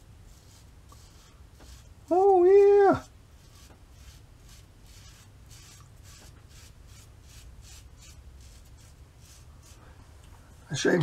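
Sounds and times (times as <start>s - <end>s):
razor scraping through stubble: 0.3s - 9.9s.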